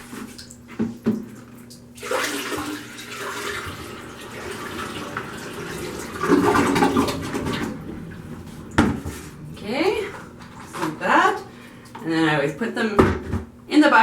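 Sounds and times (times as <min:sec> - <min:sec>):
water poured into toilet bowl: 0:00.0 - 0:12.2.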